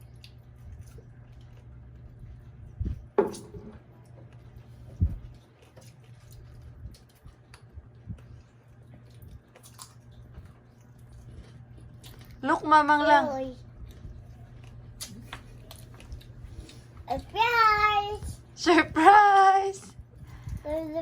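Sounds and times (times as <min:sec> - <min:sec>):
child chewing: 0:00.0 - 0:03.1, 0:03.8 - 0:12.4, 0:13.1 - 0:18.3
low hum: 0:00.0 - 0:21.0.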